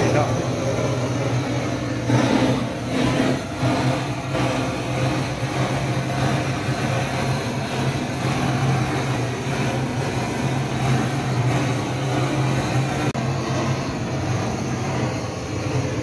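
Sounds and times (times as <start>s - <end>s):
even rushing noise: 0.0s - 16.0s
low machine hum: 0.0s - 16.0s.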